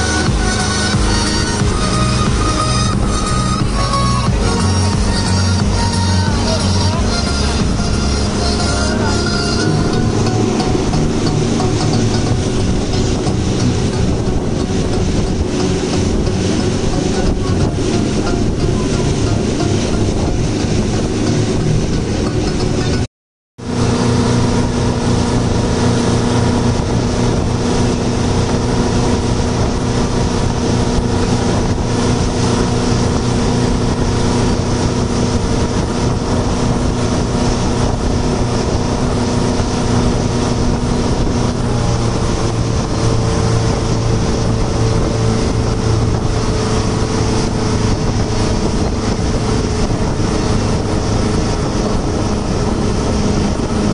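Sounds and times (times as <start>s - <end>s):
speedboat engine running: 0.0s - 53.9s
water and wind rushing: 0.0s - 53.9s.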